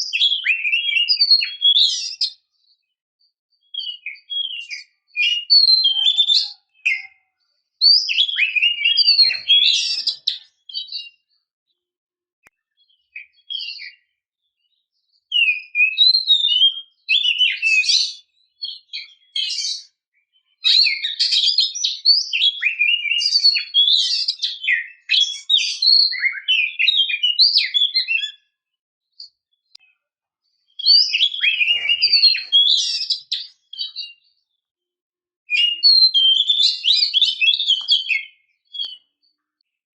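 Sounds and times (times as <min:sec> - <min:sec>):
bird whistling and chirping: 0:00.0 - 0:02.5, 0:03.6 - 0:11.3, 0:12.8 - 0:28.6, 0:30.7 - 0:34.4, 0:35.5 - 0:39.4.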